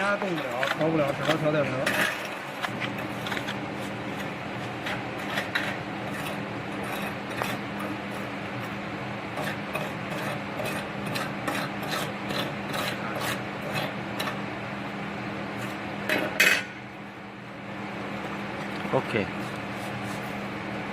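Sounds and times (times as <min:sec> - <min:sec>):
steady hum: 0:00.0 - 0:20.9.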